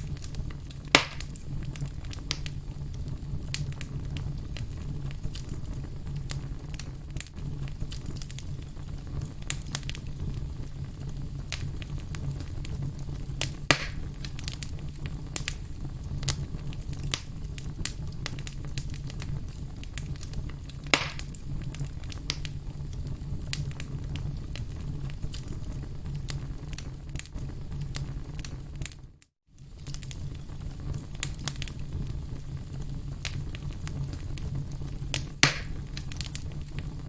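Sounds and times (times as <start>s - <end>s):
fire low rumble: 0.0s - 37.0s
firewood crackling and popping: 0.0s - 37.0s.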